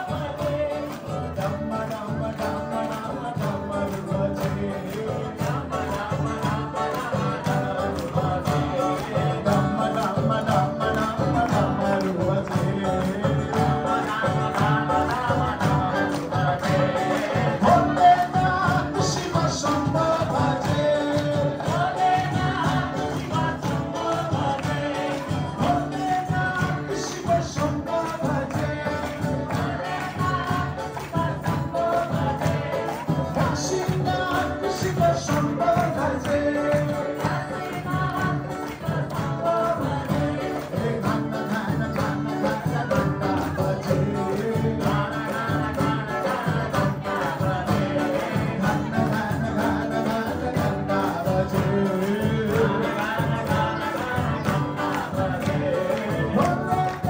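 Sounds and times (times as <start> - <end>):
crowd clapping in time: 0.0 - 57.0
group singing devotional music: 0.0 - 57.0.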